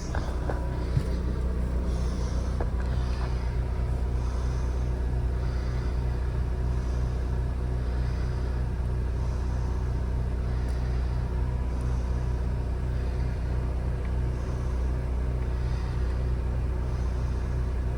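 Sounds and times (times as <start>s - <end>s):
generator engine humming: 0.0s - 17.9s.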